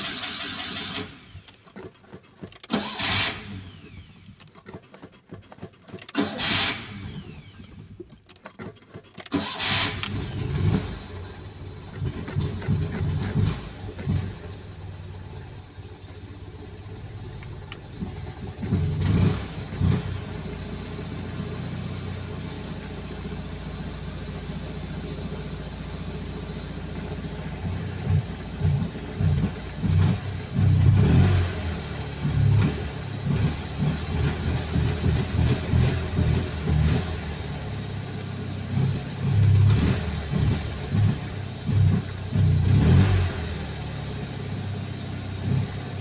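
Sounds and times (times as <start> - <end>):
car engine sputtering: 0.0 - 46.0.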